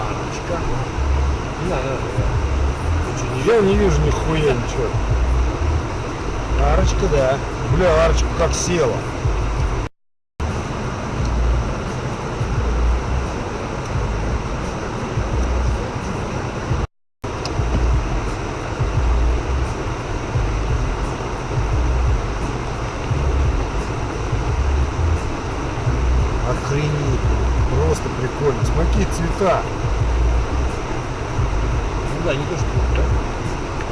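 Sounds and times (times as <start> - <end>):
suv engine rumble: 0.0 - 33.9.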